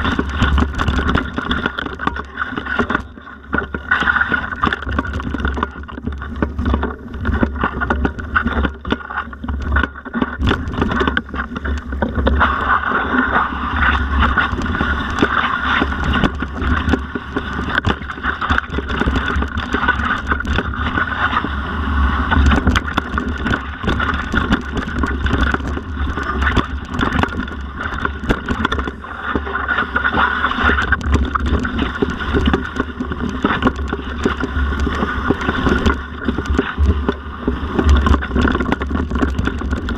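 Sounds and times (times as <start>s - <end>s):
bike knocks and rattles: 0.0s - 21.3s, 22.3s - 29.6s, 30.6s - 39.9s
wind rumble on microphone: 0.0s - 39.9s.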